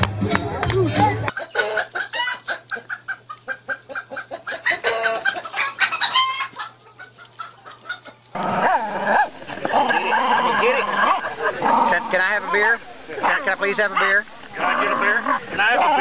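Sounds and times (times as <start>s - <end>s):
voices: 0.0s - 16.0s
chickens clucking: 0.1s - 16.0s.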